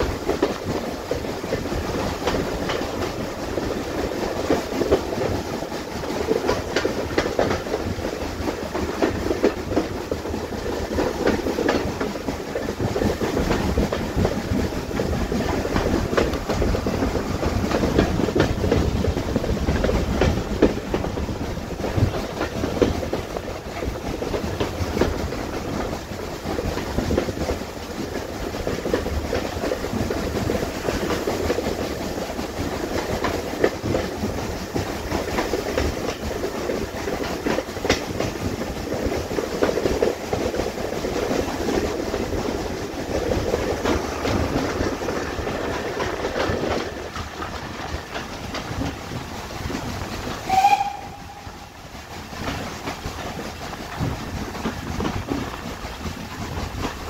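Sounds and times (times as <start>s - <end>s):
train rumbling: 0.0s - 57.0s
wheels clattering over rail joints: 0.0s - 57.0s.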